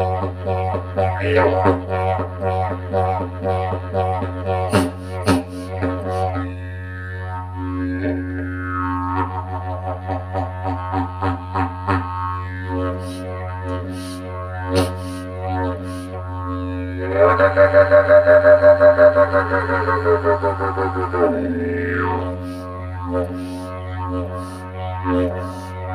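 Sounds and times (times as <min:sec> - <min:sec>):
didgeridoo drone: 0:00.0 - 0:25.9.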